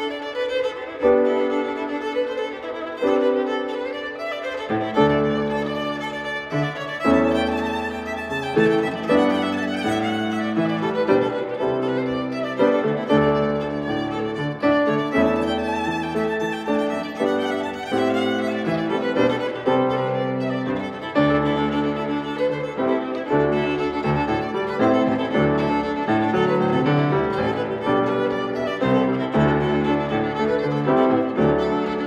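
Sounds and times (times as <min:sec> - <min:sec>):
grand piano: 0:00.0 - 0:32.0
violin melody: 0:00.0 - 0:32.0.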